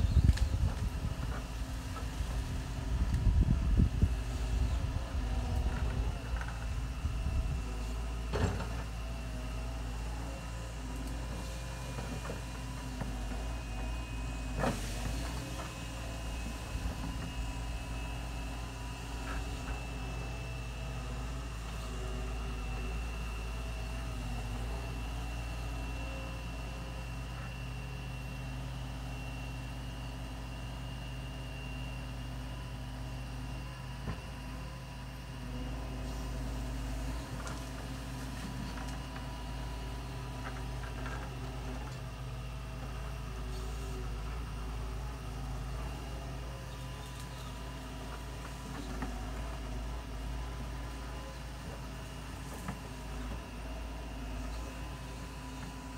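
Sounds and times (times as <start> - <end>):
distant diesel engine running: 0.0 - 55.9.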